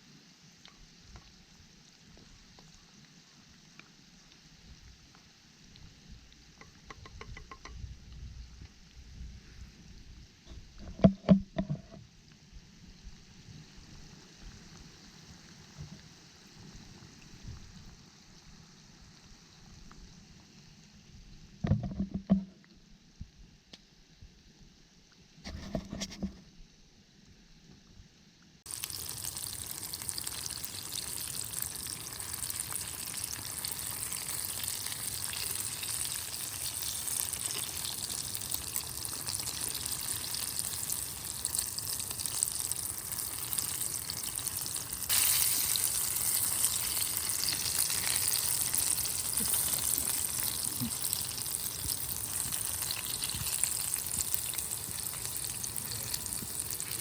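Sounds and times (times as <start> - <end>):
hot oil sizzling and crackling: 0.0 - 22.5, 28.6 - 57.0.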